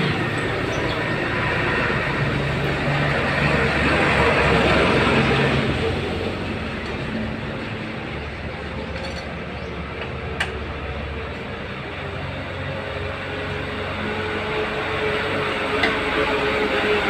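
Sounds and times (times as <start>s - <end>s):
mechanical rumble and hum: 0.0s - 17.0s.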